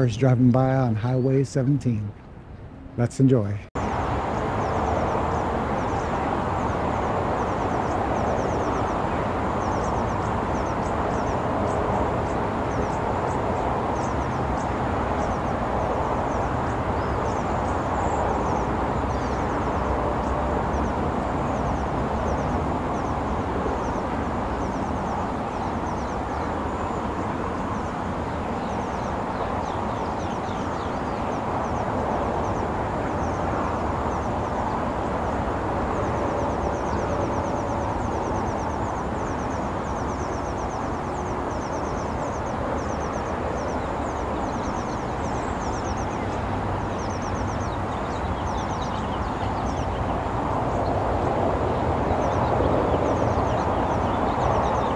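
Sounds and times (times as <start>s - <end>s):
distant freeway traffic roar: 0.0s - 54.9s.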